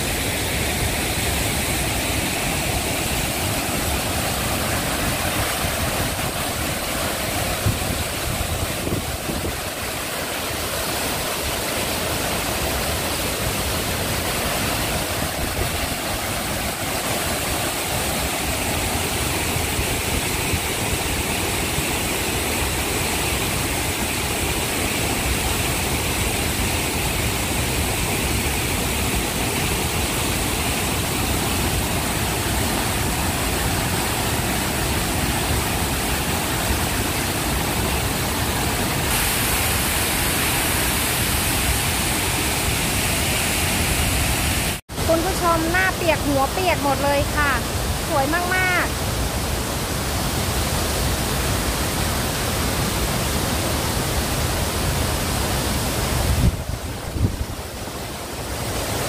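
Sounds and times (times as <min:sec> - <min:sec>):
waterfall crashing onto rocks: 0:00.0 - 0:59.0.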